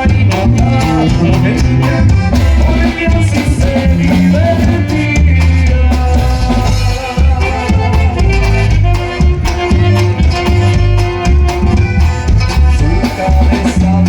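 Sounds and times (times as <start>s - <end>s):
accordion-led band playing: 0.0s - 14.0s.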